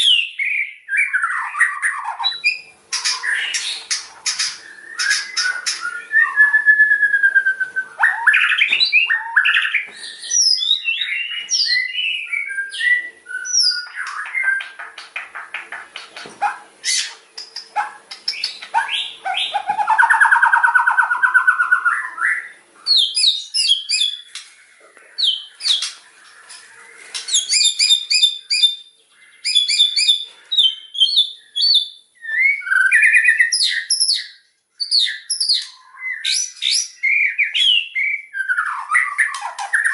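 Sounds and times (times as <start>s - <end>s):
songbird whistling and trilling: 0.0s - 15.1s, 16.4s - 24.4s, 25.2s - 39.9s.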